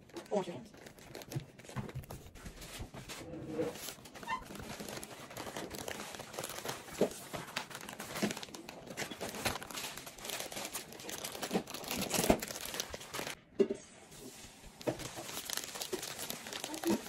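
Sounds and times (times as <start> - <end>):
plastic bag crinkling: 0.0 - 2.7, 3.7 - 13.4, 14.2 - 17.0.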